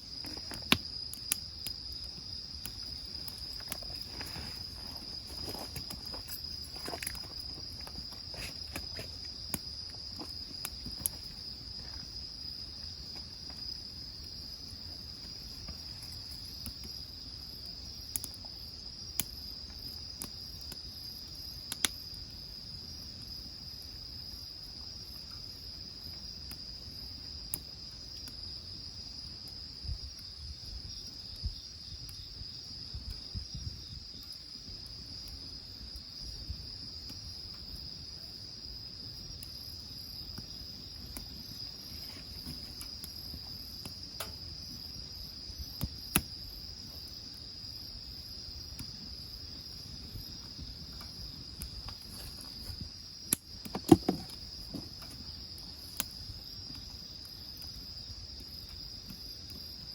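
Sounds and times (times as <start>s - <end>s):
insects trilling: 0.0s - 59.9s
wood fire crackling: 0.0s - 59.9s.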